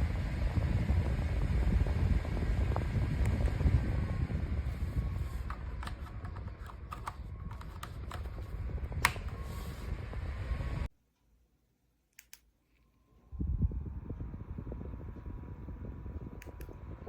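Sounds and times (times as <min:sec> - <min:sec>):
mini fan airflow rushing: 0:00.0 - 0:10.9, 0:13.3 - 0:17.0.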